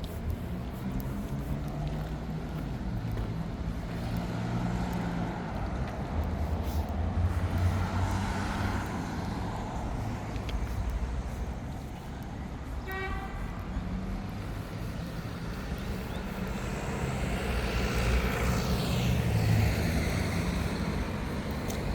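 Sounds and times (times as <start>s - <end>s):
road traffic: 0.0s - 21.9s.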